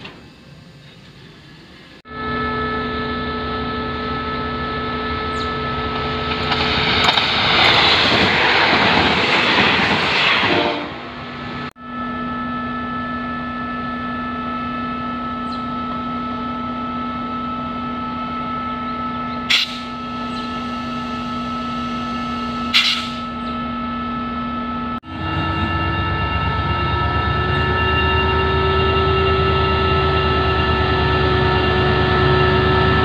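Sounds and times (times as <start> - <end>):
locomotive engine humming: 0.0 - 33.0.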